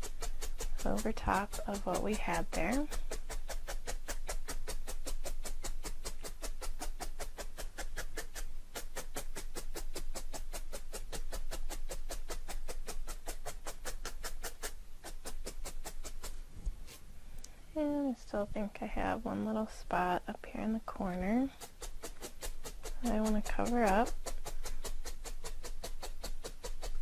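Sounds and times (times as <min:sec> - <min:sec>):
felting needle stabbing foam: 0:00.0 - 0:17.0, 0:19.8 - 0:27.0.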